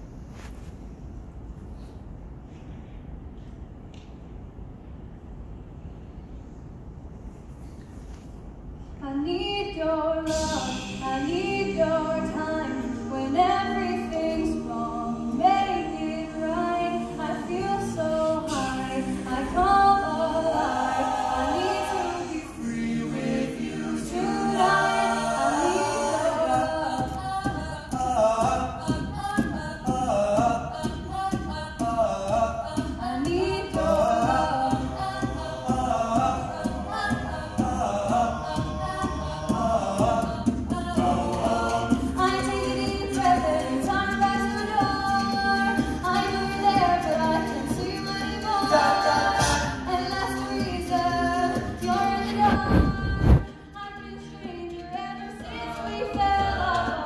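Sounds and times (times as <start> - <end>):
a cappella group singing harmony: 9.8 - 57.0.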